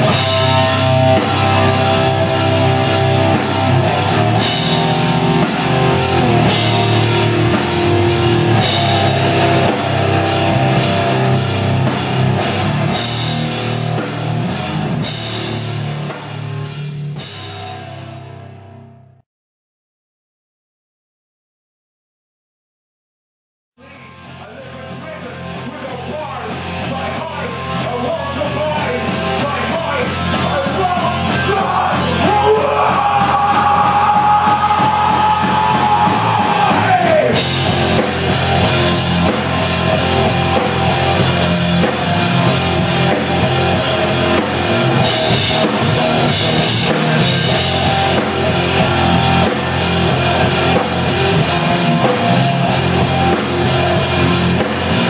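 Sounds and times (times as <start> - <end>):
steady drum beat: 0.0 - 17.8, 24.2 - 55.0
distorted electric guitar: 0.0 - 19.2, 23.9 - 55.0.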